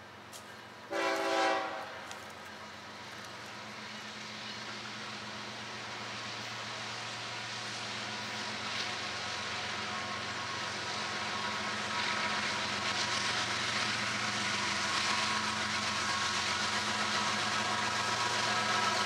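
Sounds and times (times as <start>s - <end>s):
diesel locomotive engines droning: 0.0s - 19.0s
train rail noise: 0.0s - 19.0s.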